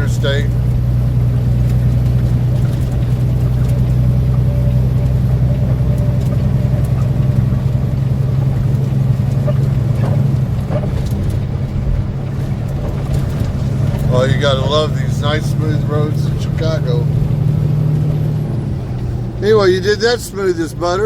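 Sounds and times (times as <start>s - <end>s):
diesel truck engine droning: 0.0s - 21.0s.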